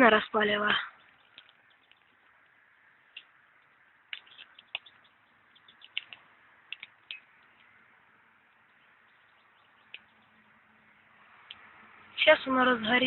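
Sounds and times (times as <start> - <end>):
campfire crackling and snapping: 0.4 - 11.8.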